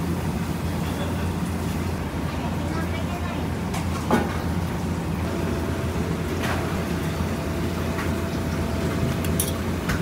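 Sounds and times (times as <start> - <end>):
restaurant kitchen hum: 0.0 - 10.0.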